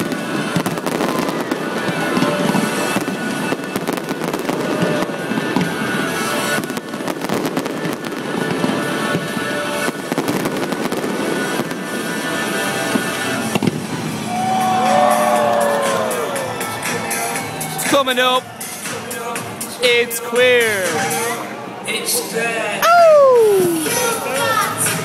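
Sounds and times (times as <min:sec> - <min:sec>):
fireworks bangs and crackling: 0:00.0 - 0:20.0, 0:23.4 - 0:25.0
music playing: 0:00.0 - 0:25.0.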